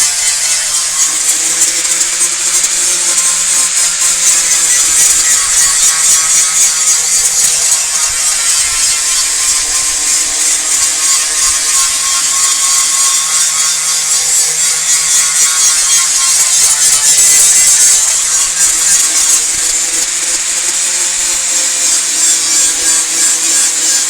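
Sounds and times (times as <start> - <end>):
sanding car body panel: 0.0 - 24.0.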